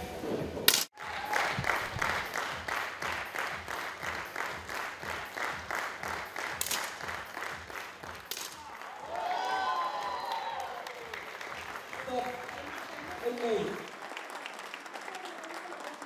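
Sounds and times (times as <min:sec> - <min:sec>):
crowd clapping in unison: 0:00.9 - 0:16.0.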